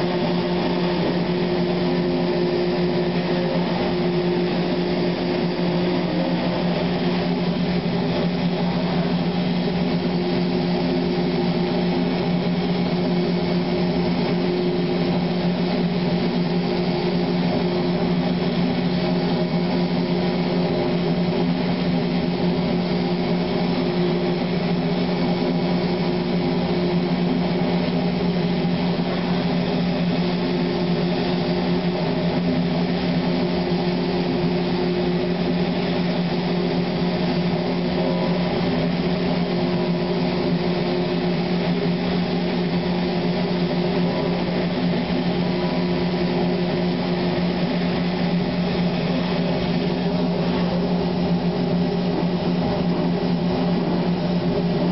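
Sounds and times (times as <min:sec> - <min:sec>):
industrial machine humming: 0:00.0 - 0:54.9.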